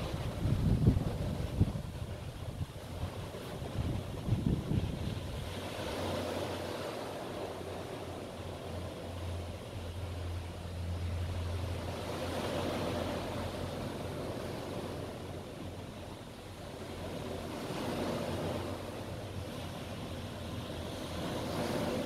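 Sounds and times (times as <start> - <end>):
low hum: 0.0 - 22.0
surf washing: 0.0 - 22.0
wind: 0.0 - 22.0.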